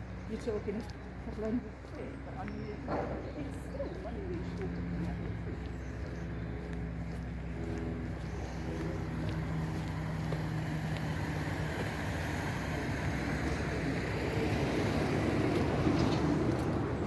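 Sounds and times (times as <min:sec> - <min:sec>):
engine humming: 0:00.0 - 0:17.0
vehicle approaching with tyre noise: 0:00.0 - 0:17.0.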